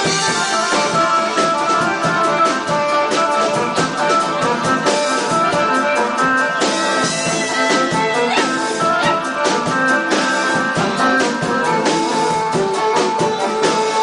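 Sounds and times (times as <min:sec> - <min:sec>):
band playing dance music: 0:00.0 - 0:14.0
steady drum beat: 0:00.0 - 0:14.0.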